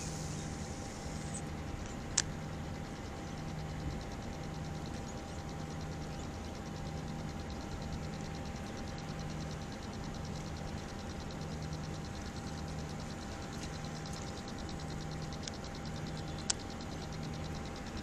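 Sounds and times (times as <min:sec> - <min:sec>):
engine running with pulsing hum: 0:00.0 - 0:18.0.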